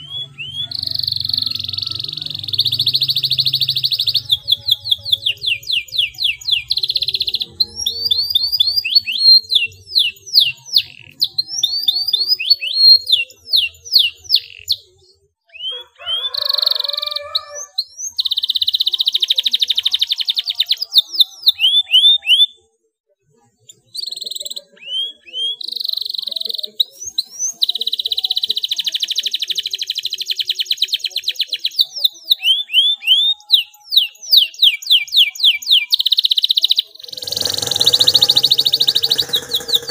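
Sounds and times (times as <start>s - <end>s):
canary singing trills: 0.0s - 22.7s, 23.6s - 39.9s.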